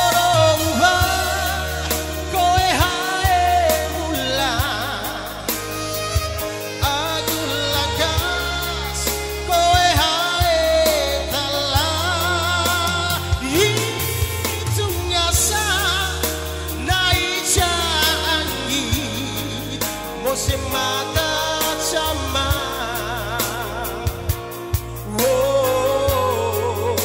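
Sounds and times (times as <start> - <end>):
keyboard playing bass and backing: 0.0 - 27.0
man singing through a microphone: 0.0 - 27.0.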